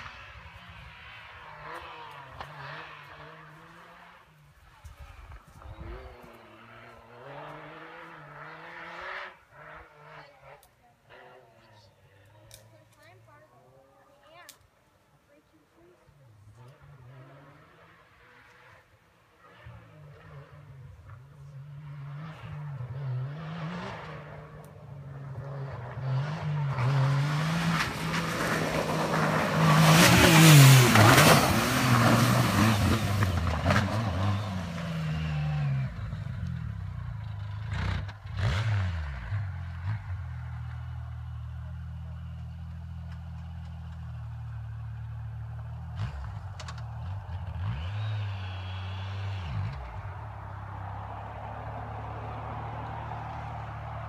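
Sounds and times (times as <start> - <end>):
engine revving and shifting: 0.0 - 4.3, 5.6 - 11.2, 16.6 - 41.4, 45.5 - 54.0
tyre and dirt noise: 0.0 - 54.0.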